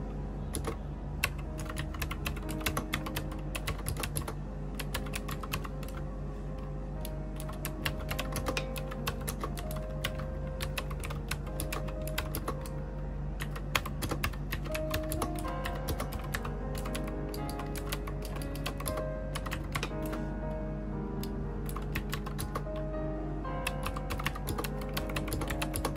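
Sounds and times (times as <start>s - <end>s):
soft background music: 0.0s - 25.9s
keyboard typing: 0.5s - 6.1s, 7.0s - 20.3s, 21.2s - 22.9s, 23.6s - 25.9s.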